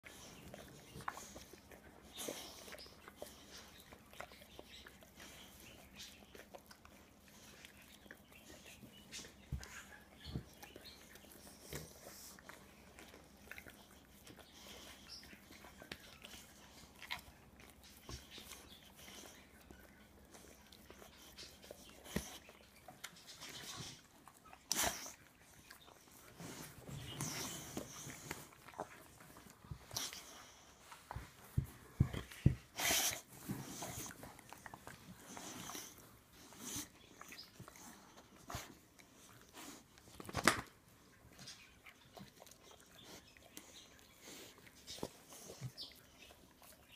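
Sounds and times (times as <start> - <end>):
dogs licking and mouthing: 0.0 - 46.9.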